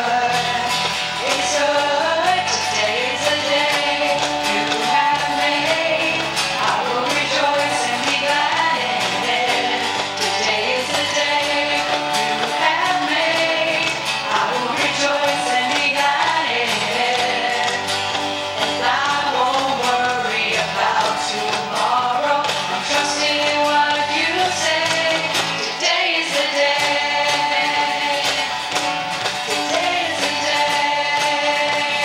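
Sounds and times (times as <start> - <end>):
woman singing: 0.0 - 18.0, 18.6 - 28.8, 29.5 - 32.0
acoustic guitar: 0.0 - 32.0
cajon beat: 0.0 - 32.0
keyboard: 0.0 - 32.0.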